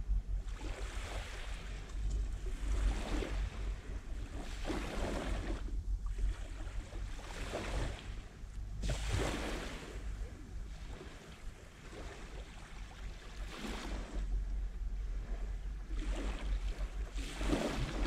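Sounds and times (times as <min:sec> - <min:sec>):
wind rumble on microphone: 0:00.0 - 0:18.0
waves lapping on shore: 0:00.4 - 0:14.3, 0:15.0 - 0:18.0.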